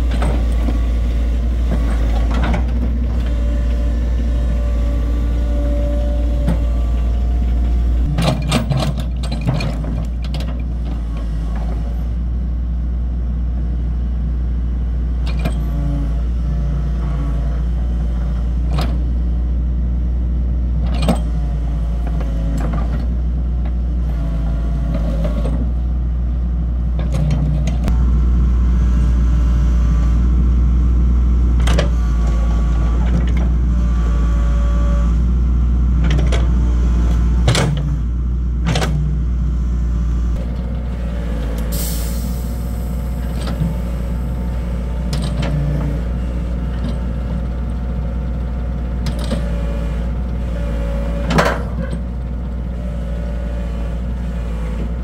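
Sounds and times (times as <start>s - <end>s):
diesel excavator engine droning: 0.0s - 55.0s.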